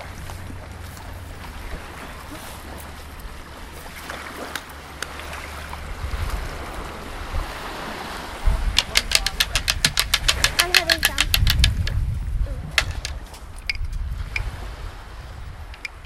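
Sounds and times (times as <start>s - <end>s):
sea and wind: 0.0s - 16.0s
wind buffeting microphone: 0.0s - 16.0s.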